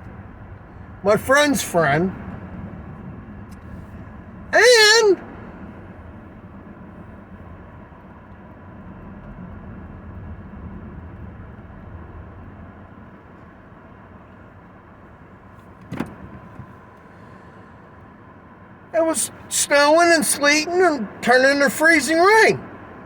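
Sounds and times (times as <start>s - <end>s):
vehicle road and engine rumble: 0.0s - 23.0s.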